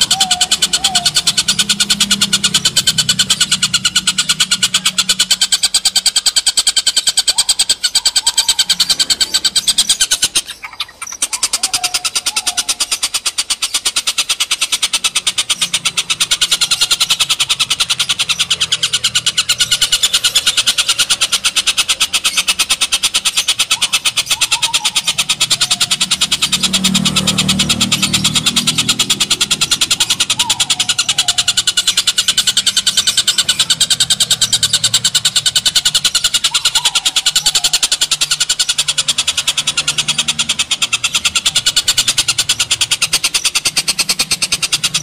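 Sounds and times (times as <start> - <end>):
bird chattering call: 0.0 - 45.0.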